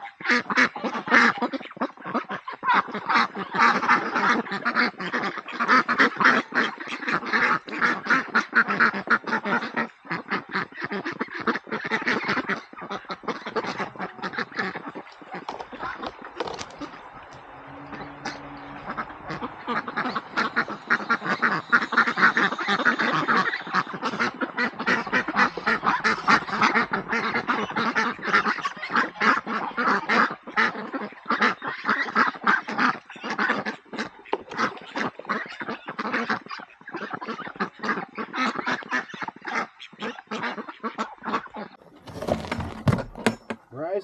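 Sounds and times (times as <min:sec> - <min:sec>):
ducks and geese quacking and honking: 0:00.0 - 0:43.3.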